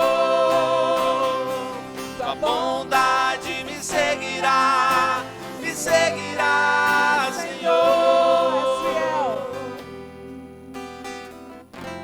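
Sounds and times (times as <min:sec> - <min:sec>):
congregation singing: 0:00.0 - 0:10.2.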